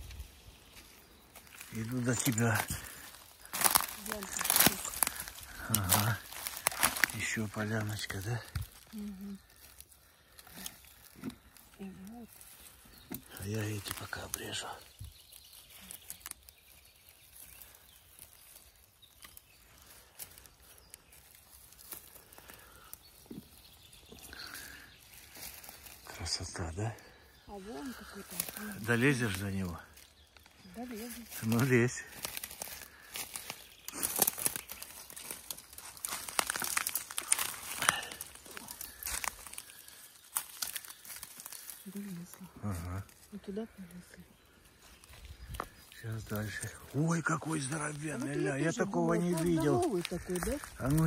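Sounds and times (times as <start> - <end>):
faint clicks and rustles: 0.0 - 26.6, 27.5 - 46.9
leaves and twigs crunching underfoot: 0.0 - 51.0.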